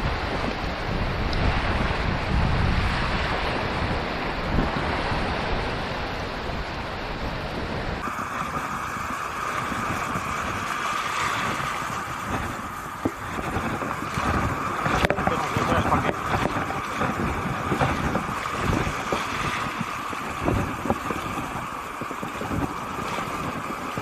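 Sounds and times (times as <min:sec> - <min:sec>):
surf waves washing: 0:00.0 - 0:24.0
wind buffeting microphone: 0:00.0 - 0:24.0.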